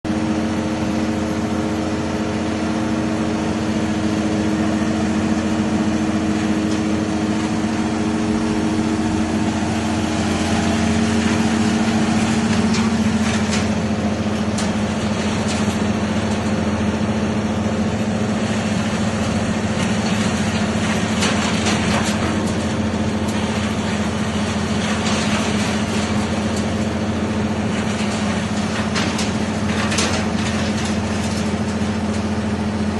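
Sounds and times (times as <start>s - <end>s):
wood chipper engine drone: 0.0s - 32.9s
wood crackling and snapping: 6.3s - 32.9s.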